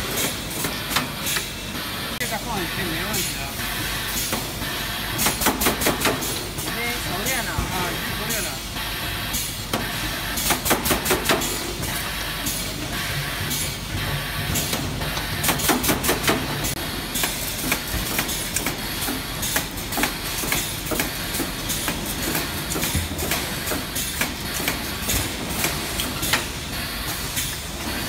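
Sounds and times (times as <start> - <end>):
steady mechanical noise: 0.0 - 28.0.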